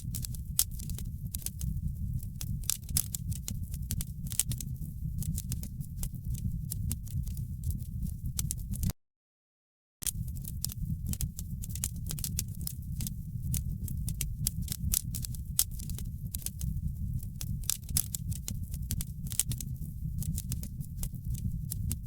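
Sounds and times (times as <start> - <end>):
wood fire crackling: 0.0 - 8.9, 10.0 - 22.0.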